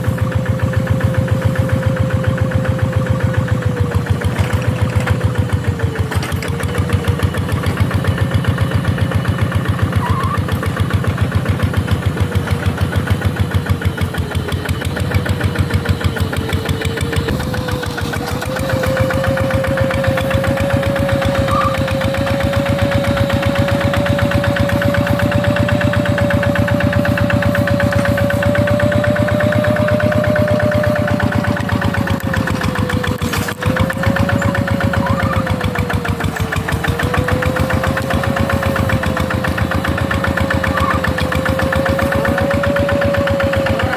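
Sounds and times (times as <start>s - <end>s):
diesel engine chugging: 0.0s - 43.9s
engine whine: 0.0s - 43.9s.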